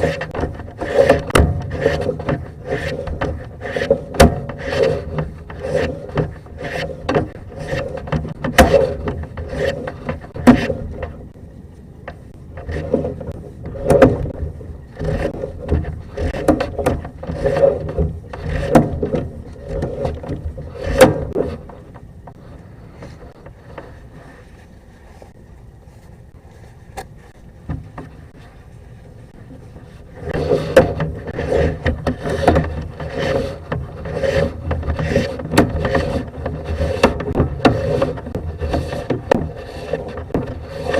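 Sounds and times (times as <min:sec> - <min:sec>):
cable scraping in pipe: 0:00.0 - 0:40.9.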